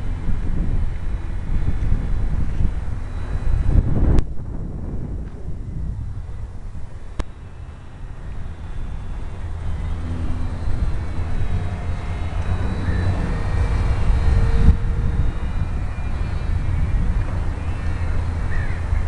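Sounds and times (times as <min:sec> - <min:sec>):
small electric motor whine: 0:00.0 - 0:19.0
wind rumbling on microphone: 0:00.0 - 0:19.0.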